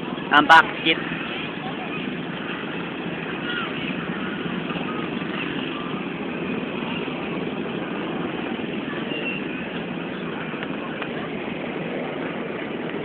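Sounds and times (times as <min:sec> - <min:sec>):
engine-like rumble: 0:00.0 - 0:13.0
faint distant voices: 0:00.0 - 0:13.0.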